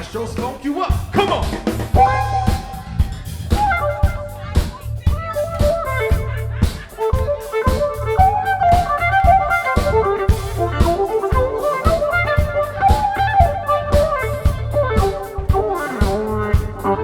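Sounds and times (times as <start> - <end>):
live funk band playing: 0.0 - 17.0.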